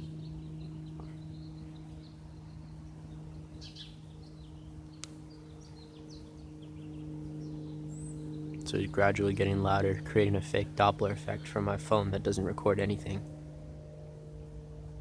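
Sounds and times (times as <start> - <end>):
birds chirping: 0.0 - 15.0
distant light aircraft droning: 0.0 - 15.0.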